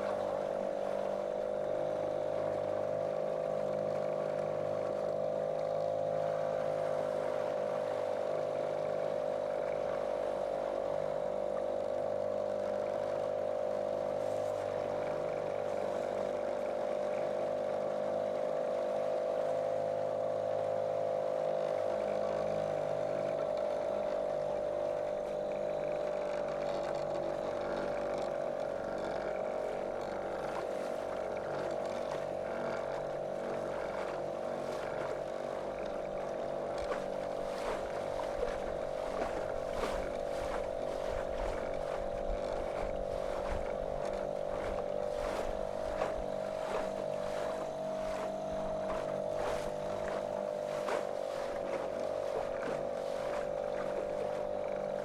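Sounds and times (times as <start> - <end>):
outboard motor droning: 0.0 - 55.0.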